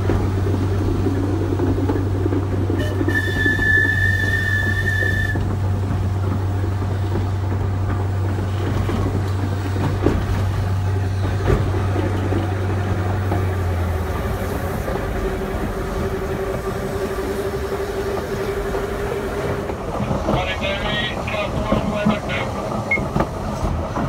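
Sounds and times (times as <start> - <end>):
tram high whine: 0.0 - 24.0
tram low hum: 0.0 - 24.0.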